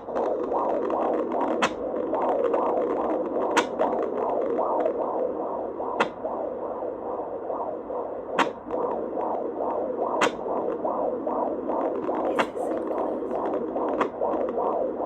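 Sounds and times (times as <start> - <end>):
fetal heartbeat through speaker: 0.0 - 15.0.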